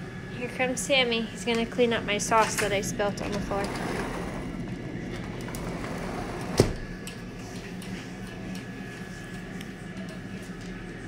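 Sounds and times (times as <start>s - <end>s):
air fryer humming: 0.0s - 11.0s.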